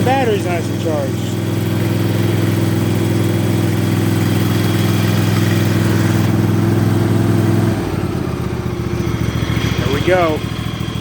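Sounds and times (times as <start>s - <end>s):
riding mower engine running: 0.0s - 11.0s.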